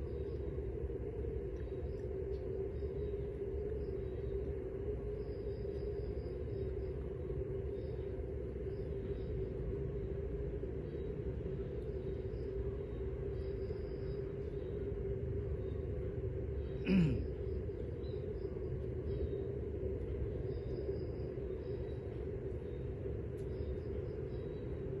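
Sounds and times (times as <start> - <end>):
constant hum: 0.0 - 25.0.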